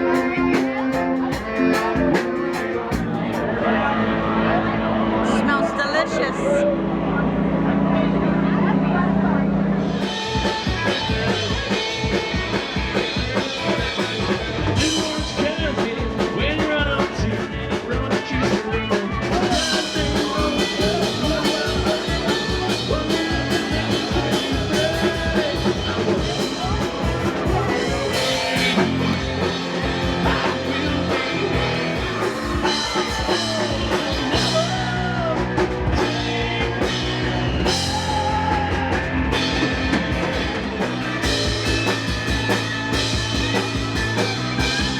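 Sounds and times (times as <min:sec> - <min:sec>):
rock music with singing: 0:00.0 - 0:44.9.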